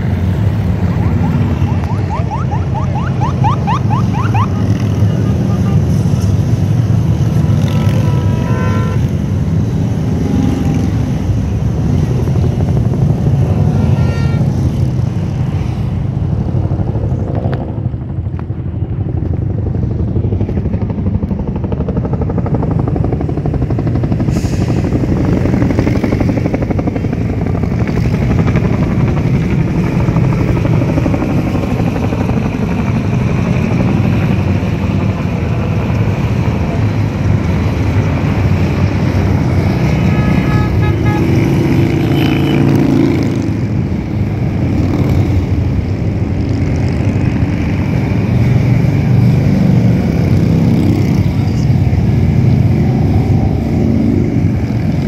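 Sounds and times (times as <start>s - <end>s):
helicopter rotor and turbine: 0.0s - 55.0s
motorcycle engines passing: 0.0s - 55.0s.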